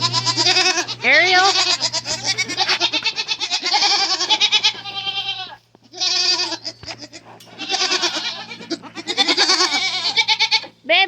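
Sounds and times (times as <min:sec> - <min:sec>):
goats bleating: 0:00.0 - 0:11.0.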